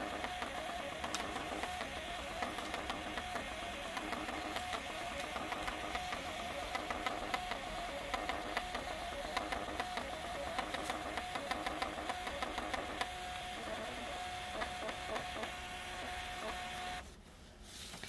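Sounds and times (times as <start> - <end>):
printer whirring and clicking: 0.0 - 17.1.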